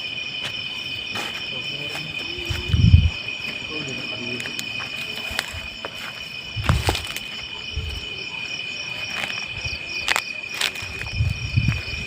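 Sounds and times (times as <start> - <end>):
crickets chirring: 0.0 - 12.0
fast pulsing insect trill: 0.0 - 12.0.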